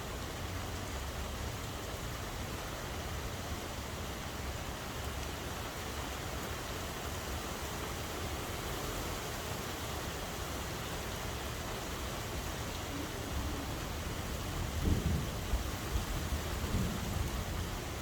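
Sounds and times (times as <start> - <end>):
steady rainfall hiss: 0.0 - 18.0.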